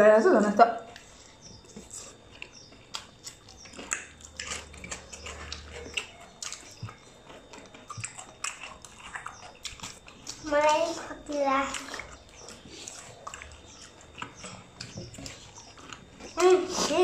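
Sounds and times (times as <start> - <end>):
people chewing and lip smacking: 0.7 - 17.0.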